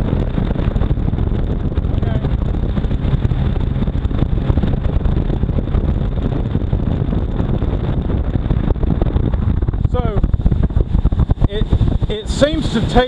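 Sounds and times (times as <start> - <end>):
jet ski engine drone: 0.0 - 13.0
wind buffeting microphone: 0.0 - 13.0.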